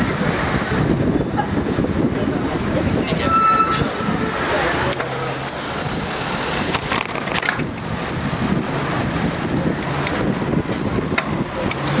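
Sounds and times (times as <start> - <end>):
cars passing close by: 0.0 - 12.0
wind on microphone: 0.0 - 12.0.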